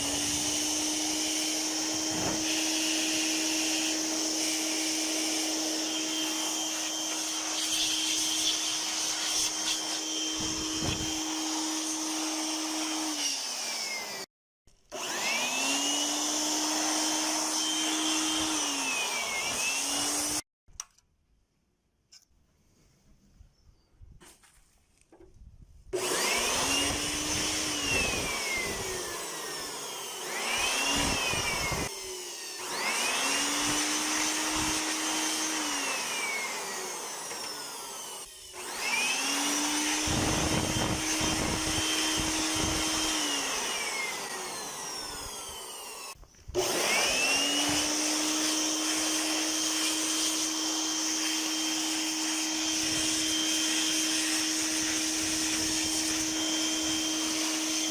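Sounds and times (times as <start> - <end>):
small electric motor whining: 0.0 - 14.3, 14.9 - 20.4, 26.0 - 57.9.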